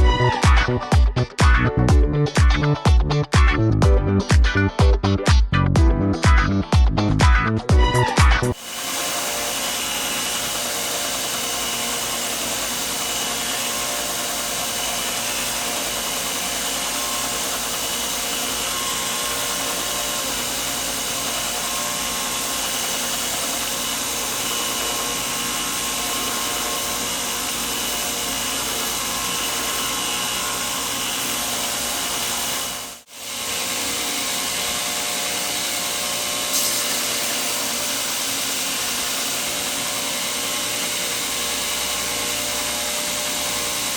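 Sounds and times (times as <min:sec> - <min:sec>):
electric grinder running: 0:00.0 - 0:03.4, 0:06.6 - 0:43.9.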